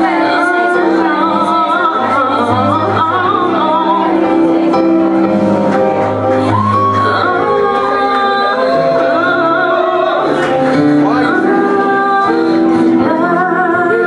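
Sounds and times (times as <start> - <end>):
woman singing: 0.0 - 4.7, 6.4 - 14.0
instrumental accompaniment with bass: 0.0 - 14.0.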